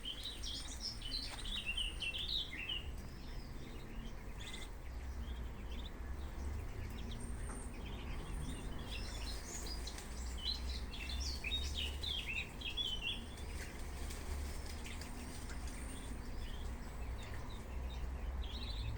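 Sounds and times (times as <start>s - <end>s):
ducklings peeping: 0.0s - 18.9s
steady low rumble: 0.0s - 18.9s.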